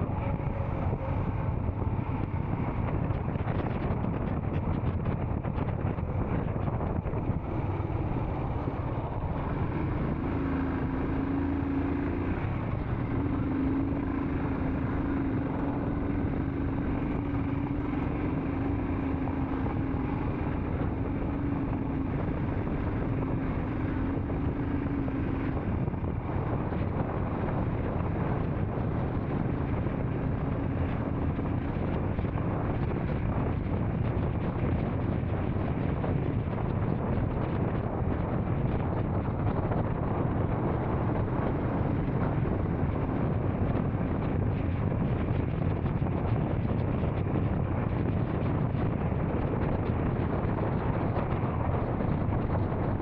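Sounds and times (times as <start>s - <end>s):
low hum: 0.0s - 53.0s
motorcycle engine cruising: 0.0s - 53.0s
wind buffeting microphone: 0.0s - 53.0s.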